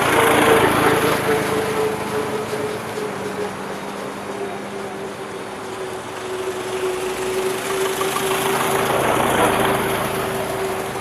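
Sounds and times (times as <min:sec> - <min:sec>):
steady engine hum: 0:00.0 - 0:11.0
vintage car driving past: 0:00.0 - 0:11.0.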